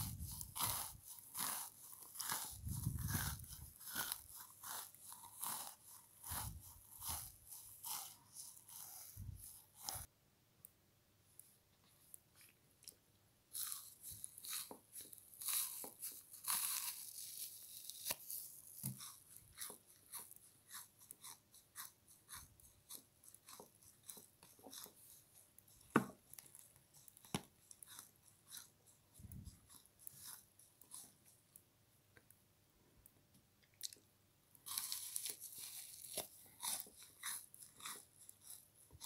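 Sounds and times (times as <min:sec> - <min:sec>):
frozen sponge crunching: 0:00.0 - 0:10.1, 0:13.5 - 0:31.2, 0:34.6 - 0:39.0.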